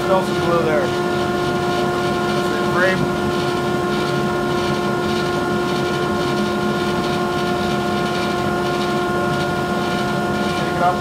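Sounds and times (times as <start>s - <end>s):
drum sander humming: 0.0s - 11.0s
machine whine: 0.0s - 11.0s.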